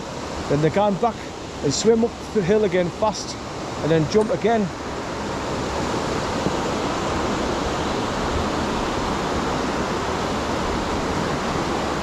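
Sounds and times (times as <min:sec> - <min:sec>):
waterfall gushing: 0:00.0 - 0:12.0.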